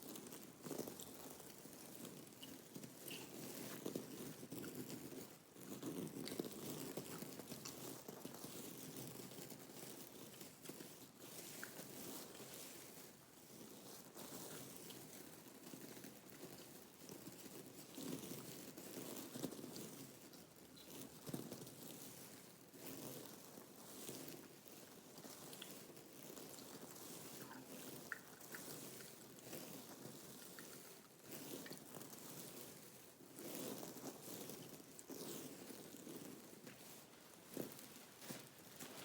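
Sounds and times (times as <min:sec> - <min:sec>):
soft rustling and scratching: 0:00.0 - 0:39.0.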